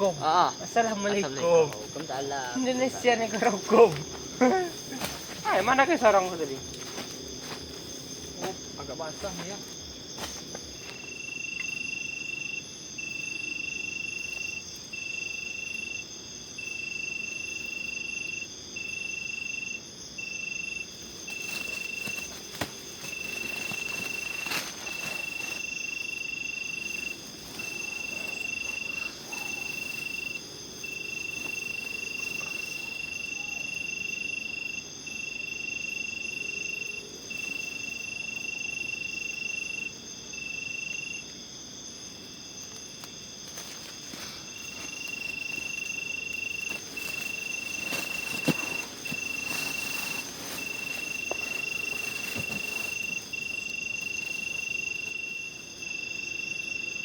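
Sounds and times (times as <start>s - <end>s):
high-pitched insect trills: 0.0s - 57.0s
loud cricket trilling: 0.0s - 57.0s.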